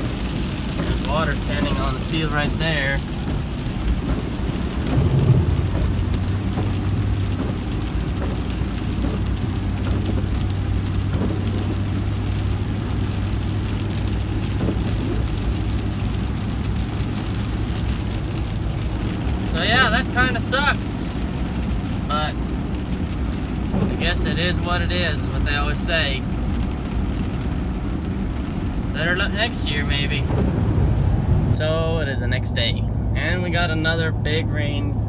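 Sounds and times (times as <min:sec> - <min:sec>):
engine droning: 0:00.0 - 0:35.0
rain falling on a vehicle: 0:00.0 - 0:35.0.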